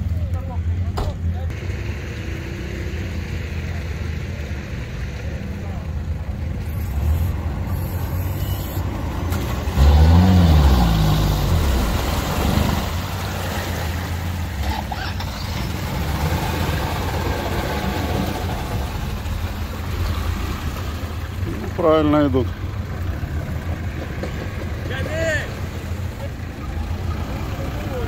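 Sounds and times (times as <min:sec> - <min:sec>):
truck engine revving: 0:01.2 - 0:28.0.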